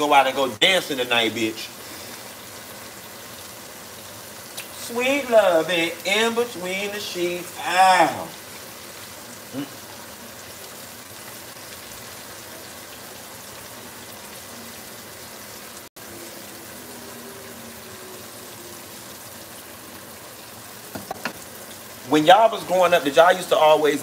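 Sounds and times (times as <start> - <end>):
meat sizzling in a skillet: 0.0 - 24.0.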